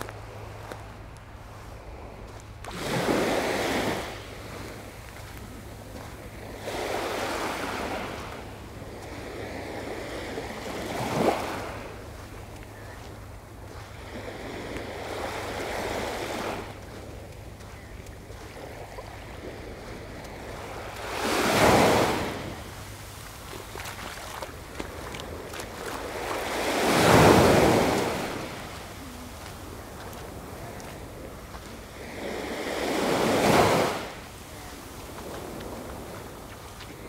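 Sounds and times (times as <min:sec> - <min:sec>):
waves breaking on a beach: 0:00.0 - 0:37.0.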